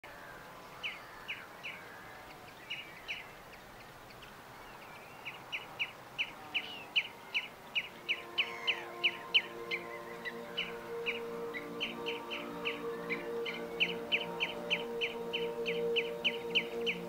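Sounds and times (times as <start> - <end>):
faint outdoor hiss: 0.0 - 17.0
bird calling with sliding notes: 0.2 - 17.0.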